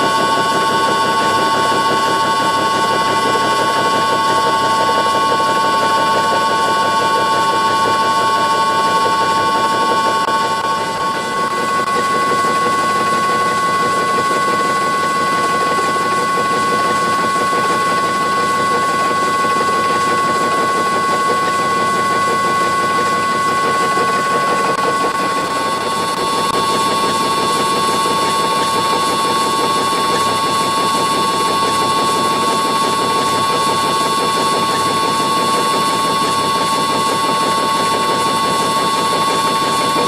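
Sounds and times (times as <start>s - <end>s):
face mill cutting steel: 0.0s - 40.0s
motor drive whining with high tones: 0.0s - 40.0s.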